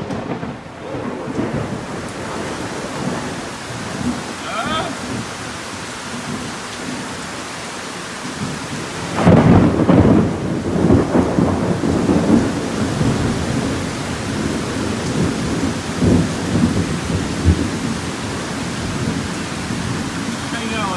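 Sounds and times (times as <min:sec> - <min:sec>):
thunder crack and rumble: 0:00.0 - 0:07.4, 0:08.2 - 0:20.9
heavy rain falling: 0:00.0 - 0:20.9.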